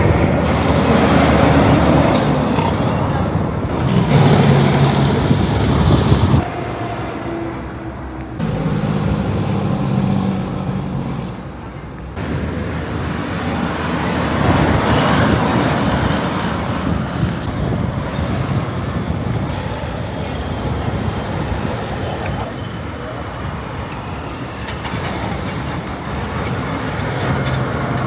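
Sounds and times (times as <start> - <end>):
wind noise on microphone: 0.0 - 7.7, 12.2 - 28.0
heavy trucks passing: 0.0 - 28.0.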